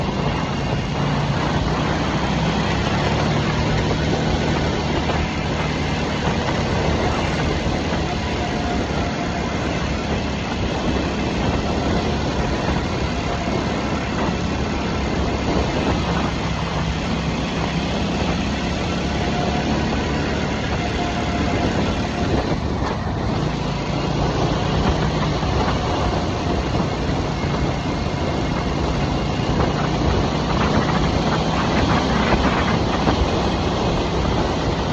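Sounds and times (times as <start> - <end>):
motorcycle engine running steadily: 0.0 - 34.9.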